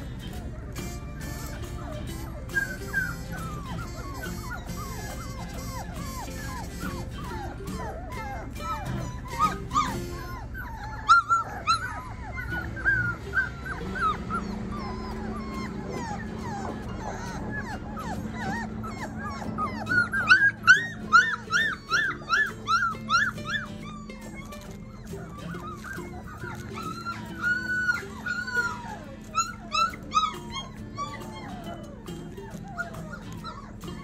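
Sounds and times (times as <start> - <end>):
puppies whining and yipping: 0.0 - 34.0.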